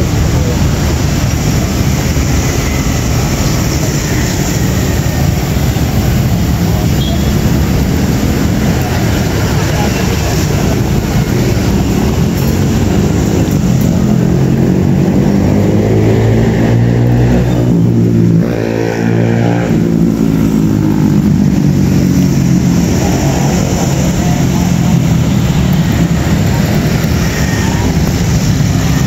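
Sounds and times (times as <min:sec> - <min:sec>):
motorcycle and car engines passing: 0:00.0 - 0:29.0.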